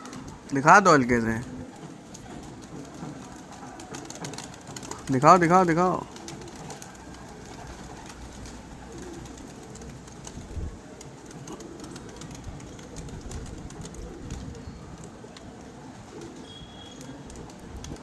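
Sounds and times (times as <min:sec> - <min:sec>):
pigeons cooing softly: 0:00.0 - 0:18.0.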